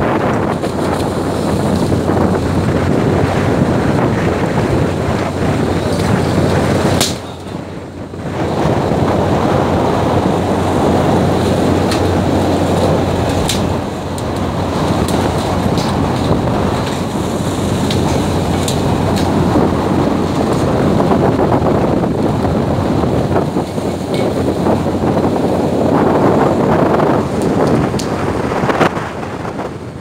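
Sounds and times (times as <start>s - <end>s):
boat engine rumble: 0.0s - 30.0s
rushing sea water: 0.0s - 30.0s
wind buffeting microphone: 0.0s - 30.0s.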